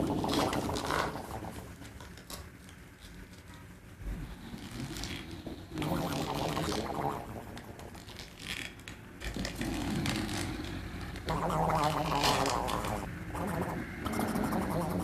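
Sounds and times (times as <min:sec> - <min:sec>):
low rough rattling vocal sound: 0:00.0 - 0:02.0, 0:04.0 - 0:15.0.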